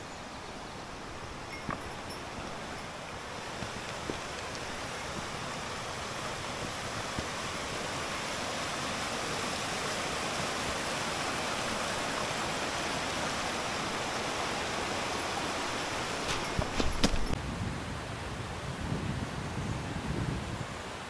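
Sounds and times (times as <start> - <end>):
stream water rushing: 0.0 - 17.4.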